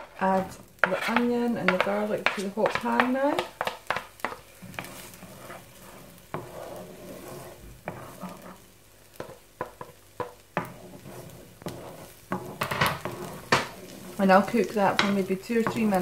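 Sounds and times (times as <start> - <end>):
onion sizzling in frying pan: 0.0 - 16.0
spatula scraping and tapping: 0.0 - 16.0.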